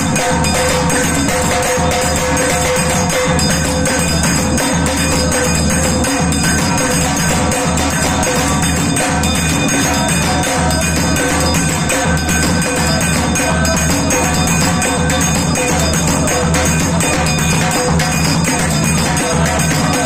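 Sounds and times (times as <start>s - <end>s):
music with percussive beat: 0.0s - 20.0s.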